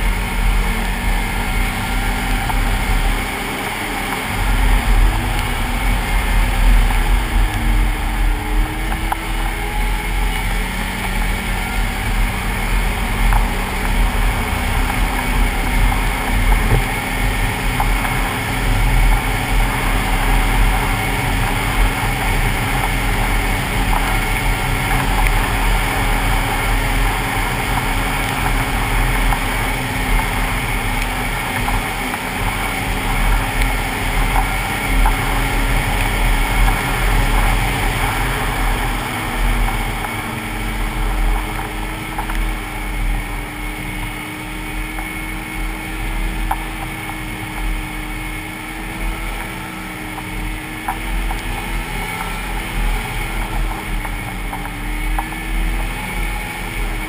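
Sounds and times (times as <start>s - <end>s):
snowmobile engine running: 0.0s - 57.0s
wind on microphone: 0.0s - 57.0s.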